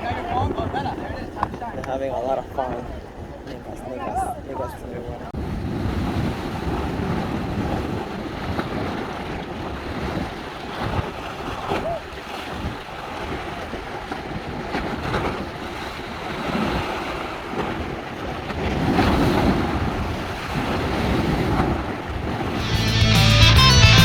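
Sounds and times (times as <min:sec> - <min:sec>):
wind buffeting microphone: 0:00.0 - 0:22.6
sea waves on a beach: 0:00.0 - 0:22.8.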